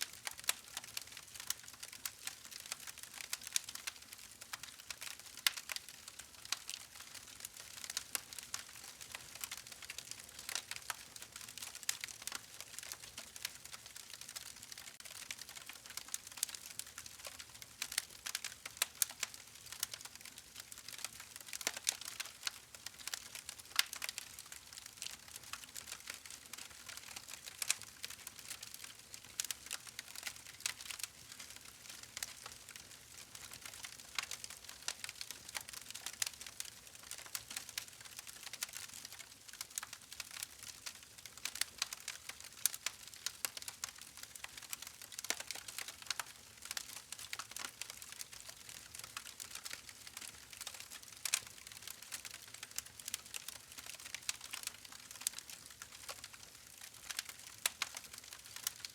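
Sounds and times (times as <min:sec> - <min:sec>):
wood fire crackling: 0:00.1 - 0:58.9.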